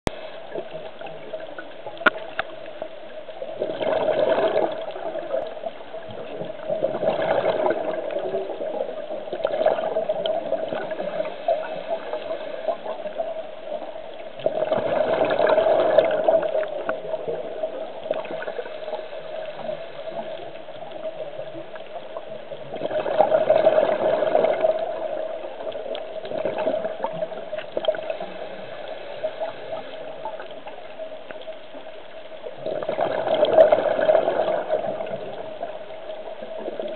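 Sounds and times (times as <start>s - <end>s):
regulator bubbling underwater: 0.1s - 36.9s.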